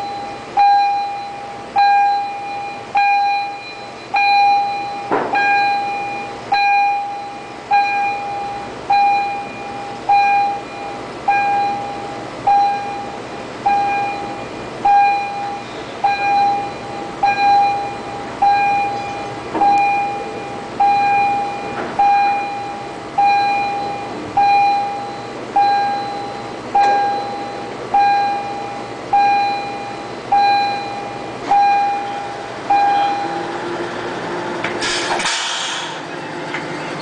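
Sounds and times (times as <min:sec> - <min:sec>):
warning beeper long beeps: 0:00.0 - 0:33.5
steady motor hum: 0:00.0 - 0:35.2.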